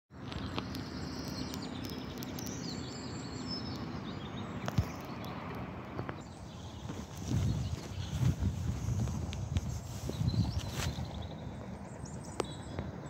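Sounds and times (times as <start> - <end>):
outdoor background noise: 0.1 - 13.0
small birds chirping: 0.1 - 13.0.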